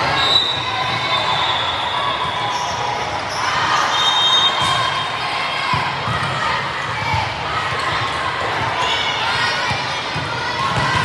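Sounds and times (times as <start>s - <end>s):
spectators murmuring in a hall: 0.0s - 11.0s.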